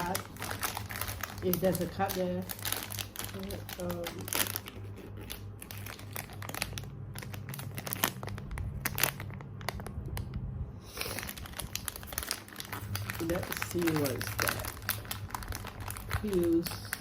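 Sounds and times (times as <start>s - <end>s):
low steady hum: 0.0s - 17.0s
packaging crinkling and rustling: 0.0s - 17.0s.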